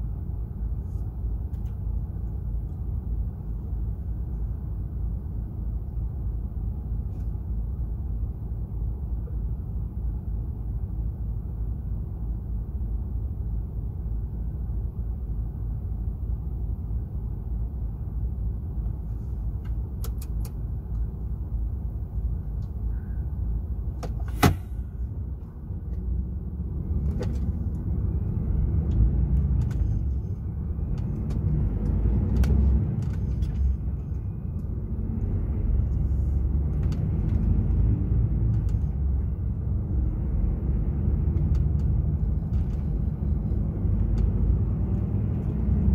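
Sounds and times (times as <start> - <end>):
diesel truck engine rumbling: 0.0 - 45.9.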